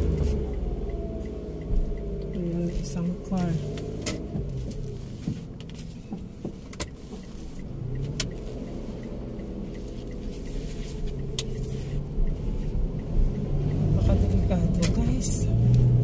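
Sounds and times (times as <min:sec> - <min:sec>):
car engine hum in cabin: 0:00.0 - 0:16.0.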